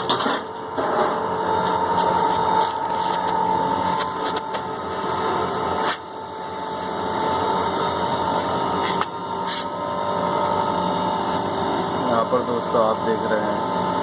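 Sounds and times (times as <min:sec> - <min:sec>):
machinery hum with whine: 0:00.0 - 0:14.0.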